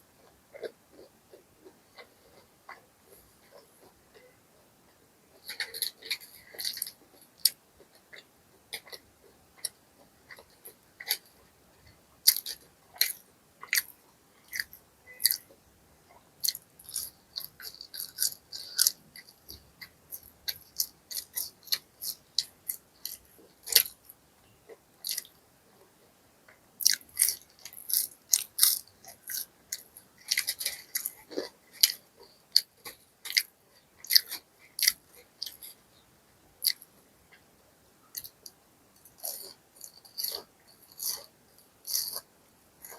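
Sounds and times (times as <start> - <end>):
chewing crispy food: 0.0 - 42.9.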